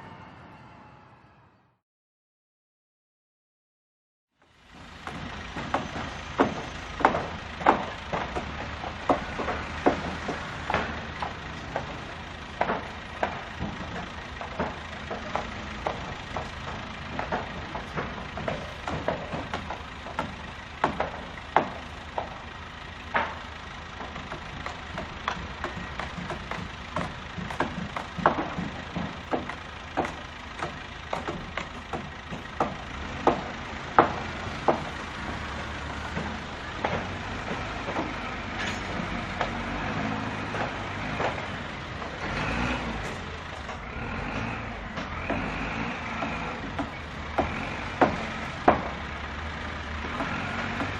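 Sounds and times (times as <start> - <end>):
sharp knocks and clicks: 4.8 - 50.9.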